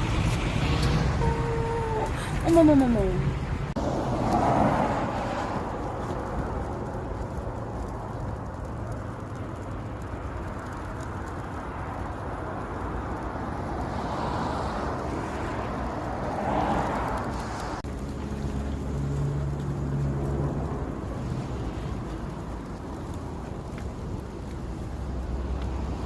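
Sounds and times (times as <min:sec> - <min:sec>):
snow falling hiss: 0:03.8 - 0:26.0.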